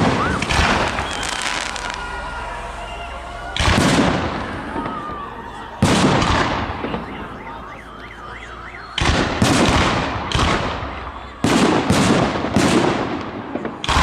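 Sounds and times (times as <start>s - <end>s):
fireworks booming and crackling: 0.0s - 14.0s
car alarm warbling: 0.2s - 11.5s.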